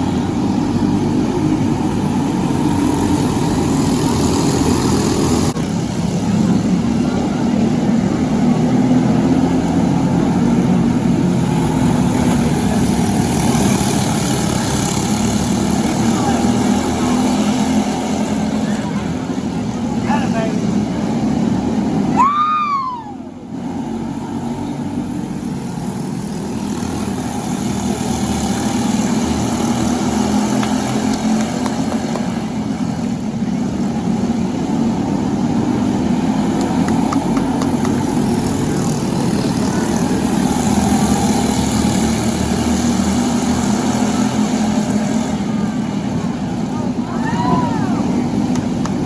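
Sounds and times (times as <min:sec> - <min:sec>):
kart engines droning: 0:00.0 - 0:49.0.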